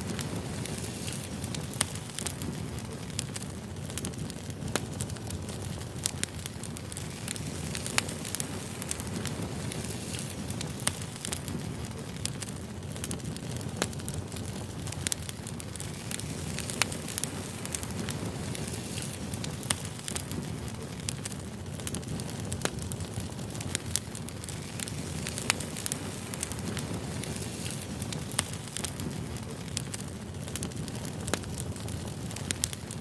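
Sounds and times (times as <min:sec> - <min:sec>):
fire rumbling: 0:00.0 - 0:33.0
firewood crackling and popping: 0:00.0 - 0:33.0.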